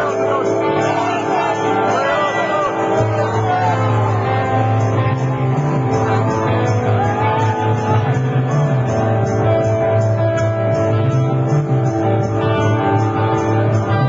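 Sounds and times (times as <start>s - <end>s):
bass line: 0.0s - 14.0s
electric guitars: 0.0s - 14.0s.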